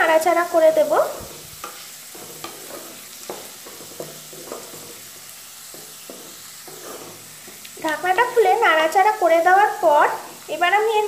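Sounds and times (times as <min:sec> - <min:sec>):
food sizzling in oil: 0:00.0 - 0:11.0
spatula scraping pan: 0:00.1 - 0:10.4.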